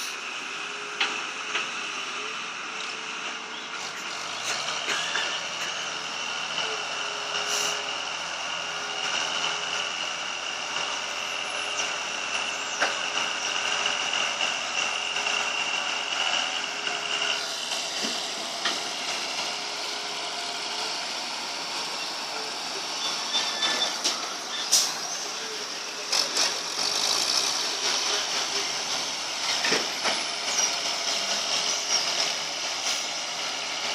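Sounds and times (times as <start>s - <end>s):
excavator engine under load: 0.0s - 33.9s
high hydraulic whine: 0.0s - 33.9s.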